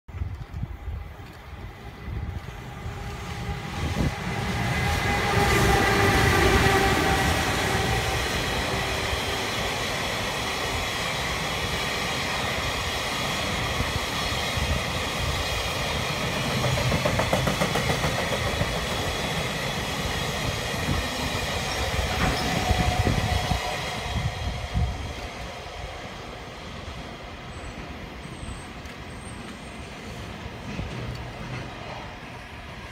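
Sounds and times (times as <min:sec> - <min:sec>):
electric locomotive humming whine: 0:00.1 - 0:32.9
train rumble: 0:00.1 - 0:32.9.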